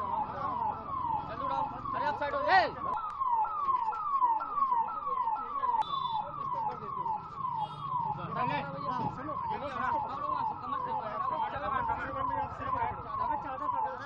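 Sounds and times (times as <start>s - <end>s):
electronic siren wailing: 0.0s - 14.0s.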